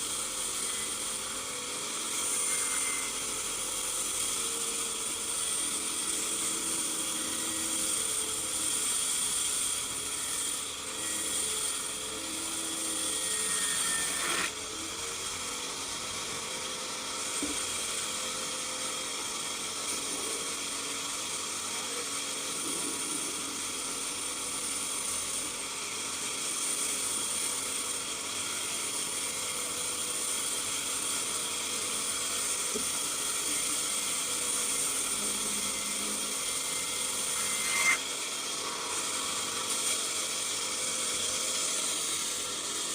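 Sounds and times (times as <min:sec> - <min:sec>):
power saw cutting timber: 0:00.0 - 0:42.9.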